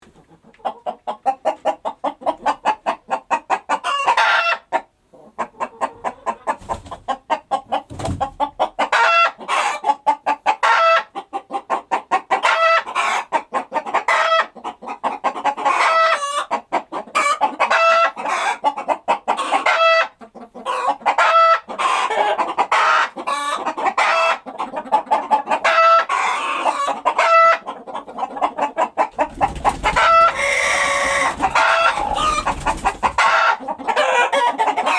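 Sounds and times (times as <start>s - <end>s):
chickens clucking and squawking: 0.0s - 34.9s.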